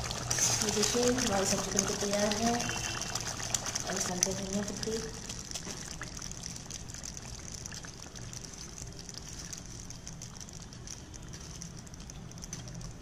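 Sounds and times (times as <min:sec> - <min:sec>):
curry simmering bubbling: 0:00.0 - 0:13.0.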